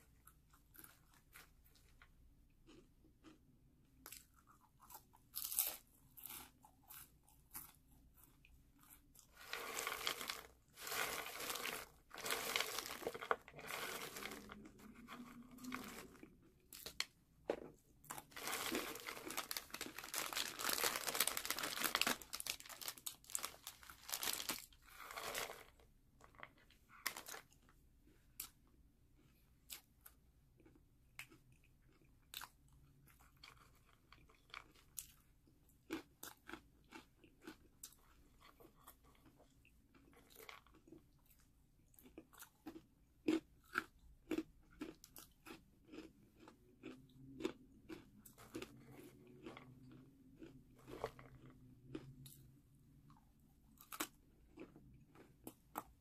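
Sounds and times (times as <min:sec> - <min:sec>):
person crunching a snack: 0:00.0 - 0:56.0.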